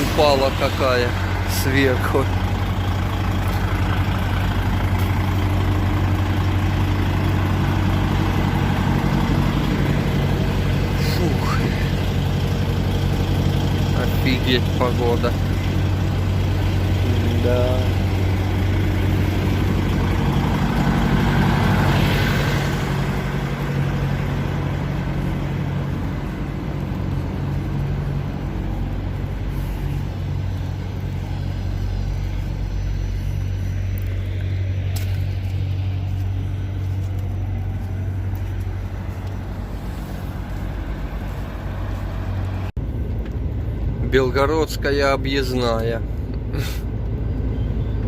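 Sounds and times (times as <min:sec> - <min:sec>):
truck diesel engine droning: 0:00.0 - 0:48.0
wind and tyre noise on snow: 0:00.0 - 0:48.0.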